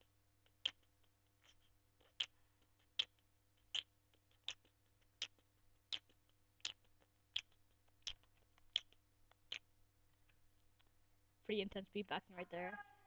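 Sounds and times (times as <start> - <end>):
faint ticks: 0.0 - 11.0
beatboxing mouth clicks: 0.4 - 10.9.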